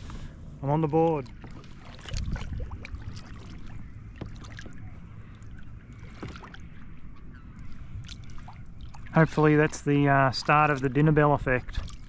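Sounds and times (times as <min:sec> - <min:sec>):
water moving around a kayak: 0:00.0 - 0:12.0.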